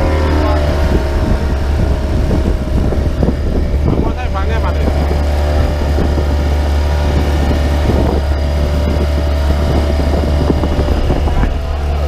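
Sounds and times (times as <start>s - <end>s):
small boat engine droning: 0.0s - 12.0s.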